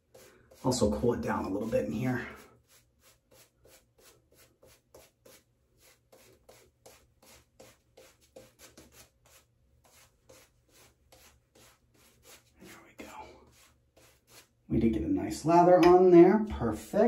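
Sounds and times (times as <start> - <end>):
shaving brush rubbing lather: 0.0 - 14.7.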